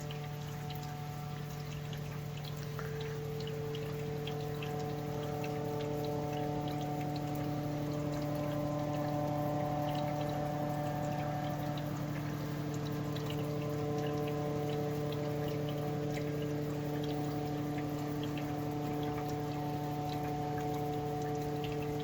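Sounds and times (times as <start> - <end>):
small irregular ticks: 0.0 - 22.0
steady hum with overtones: 0.0 - 22.0.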